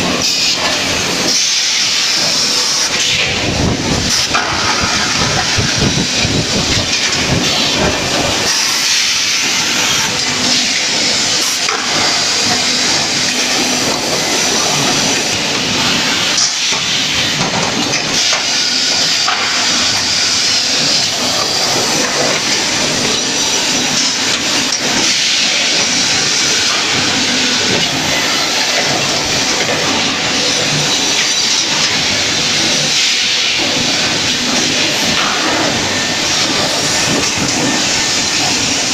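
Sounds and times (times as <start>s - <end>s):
loud hissing machine noise: 0.0s - 38.9s.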